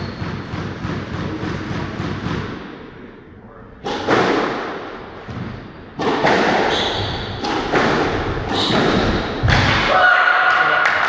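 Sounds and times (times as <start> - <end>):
squash ball hits: 0.0 - 2.8, 3.8 - 10.0.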